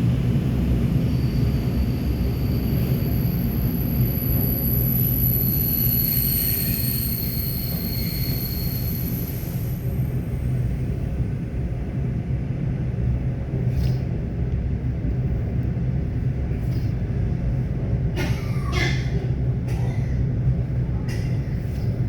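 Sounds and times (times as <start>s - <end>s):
electric train rumbling on track: 0.0s - 22.0s.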